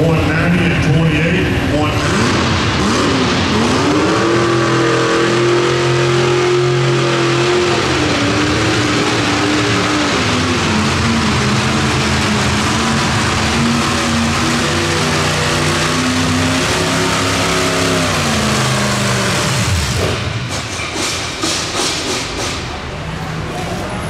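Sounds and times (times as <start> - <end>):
truck engine revving under load: 0.0 - 21.7.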